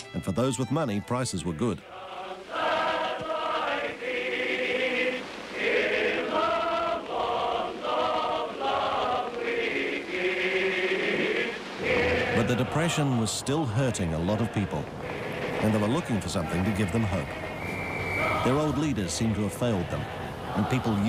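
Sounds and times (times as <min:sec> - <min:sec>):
men's choir singing held notes: 0:00.0 - 0:21.0.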